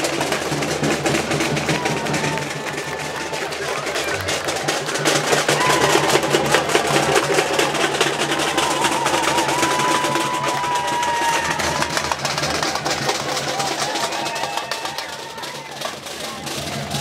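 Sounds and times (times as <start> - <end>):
percussion band drumming: 0.0 - 17.0.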